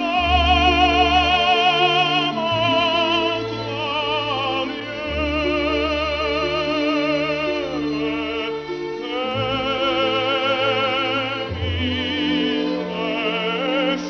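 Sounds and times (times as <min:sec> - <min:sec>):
operatic singing with vibrato: 0:00.0 - 0:14.0.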